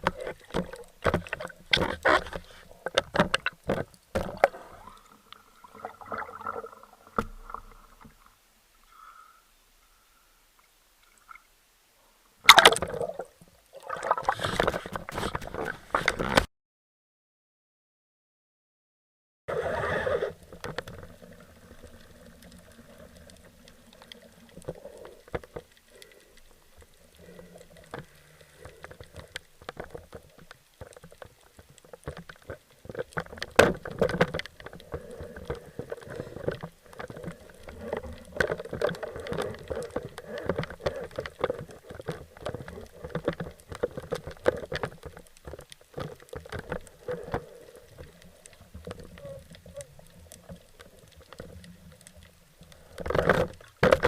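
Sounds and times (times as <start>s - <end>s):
dense crackling clicks underwater: 0.0s - 9.3s, 12.4s - 16.5s, 19.6s - 54.0s.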